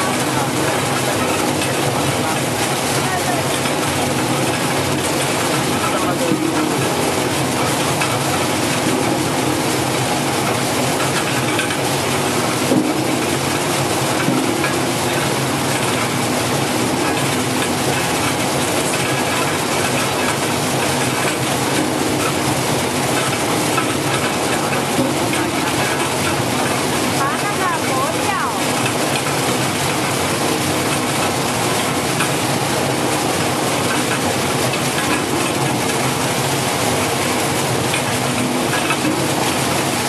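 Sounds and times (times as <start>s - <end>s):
tubers tumbling and clattering: 0.0s - 40.0s.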